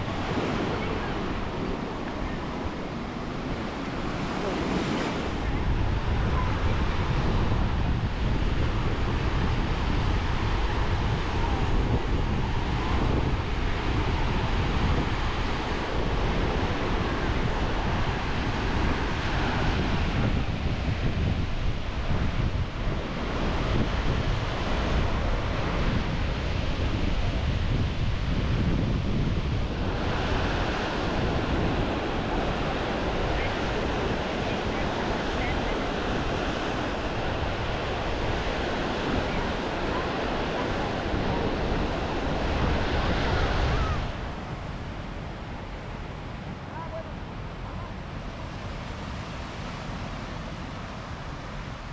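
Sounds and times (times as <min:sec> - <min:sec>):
surf breaking on sandy beach: 0:00.0 - 0:51.9
wind buffeting microphone: 0:00.0 - 0:51.9.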